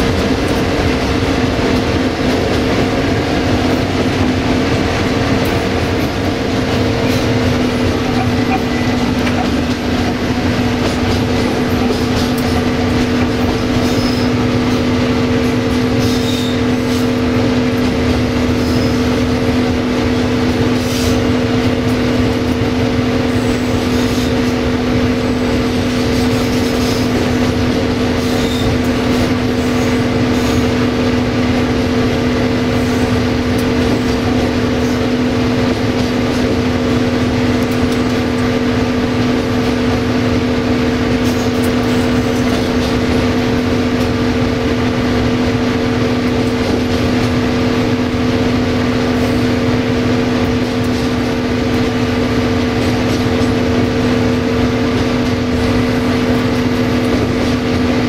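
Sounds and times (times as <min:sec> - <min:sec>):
diesel engine deep hum: 0:00.0 - 0:58.0
train rolling on track: 0:00.0 - 0:58.0.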